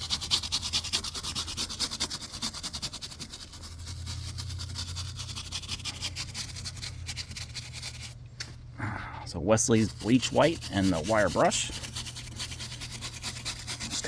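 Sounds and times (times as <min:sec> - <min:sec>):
wire brush scrubbing rubber: 0:00.0 - 0:08.6, 0:09.4 - 0:14.0.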